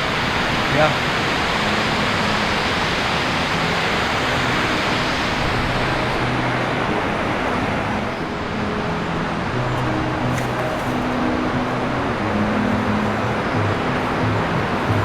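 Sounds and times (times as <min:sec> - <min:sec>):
rush of flowing water: 0:00.0 - 0:15.0.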